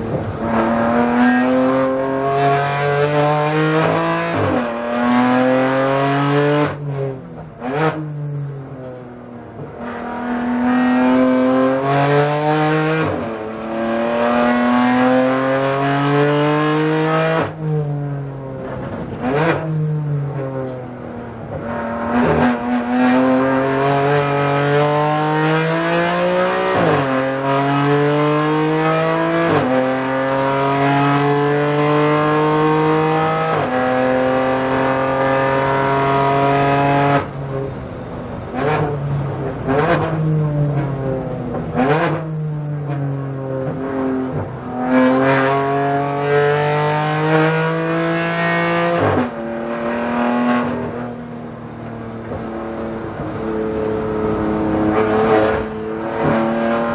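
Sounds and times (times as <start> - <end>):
race car engine accelerating: 0.1 - 7.0, 9.6 - 17.9, 21.4 - 37.4, 38.4 - 56.9.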